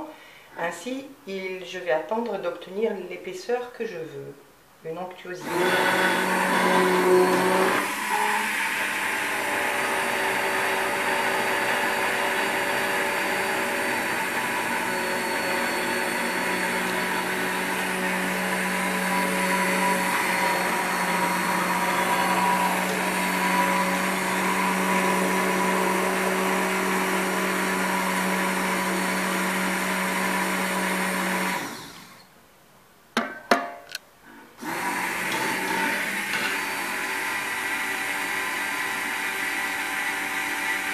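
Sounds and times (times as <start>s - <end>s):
immersion blender running: 5.4s - 32.3s, 34.6s - 40.9s.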